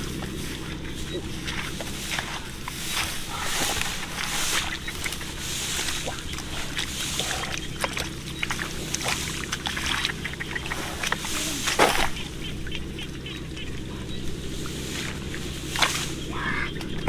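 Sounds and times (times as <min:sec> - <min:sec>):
steady low hum: 0:00.0 - 0:17.0
water sloshing and splashing: 0:00.0 - 0:17.0.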